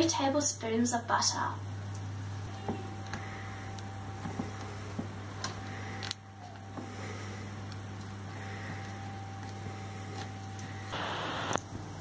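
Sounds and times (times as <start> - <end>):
low hum: 1.4 - 12.0.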